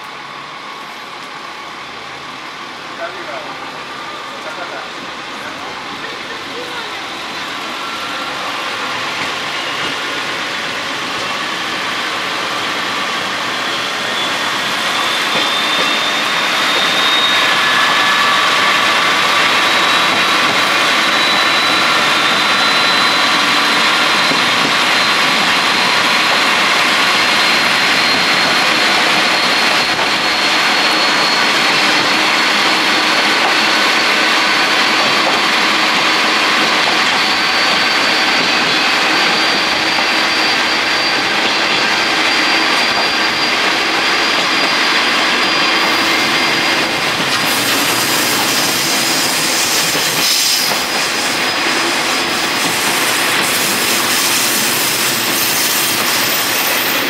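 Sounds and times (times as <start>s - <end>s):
diesel railcar engine pulling away: 0.0s - 57.0s.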